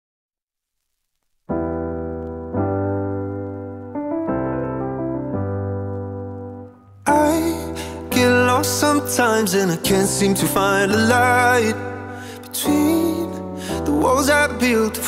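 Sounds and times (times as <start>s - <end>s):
electric piano chords: 1.5s - 15.0s.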